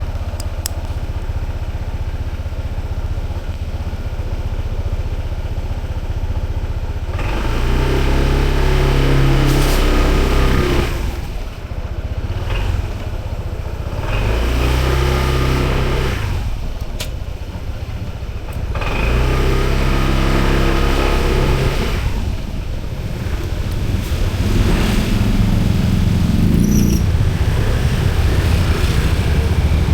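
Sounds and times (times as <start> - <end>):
motorbike engine under throttle: 0.0 - 29.9.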